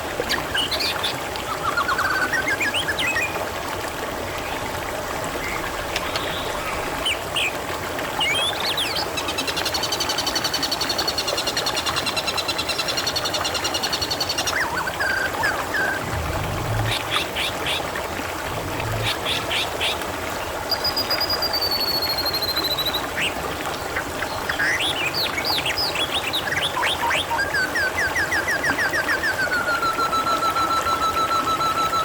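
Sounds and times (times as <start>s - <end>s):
water trickling: 0.0s - 32.0s.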